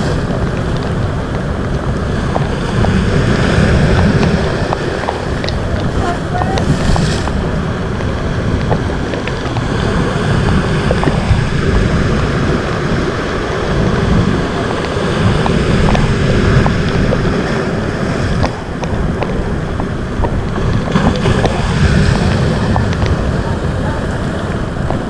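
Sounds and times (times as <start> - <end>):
rough sea washing: 0.0 - 25.0
wind buffeting microphone: 0.0 - 25.0.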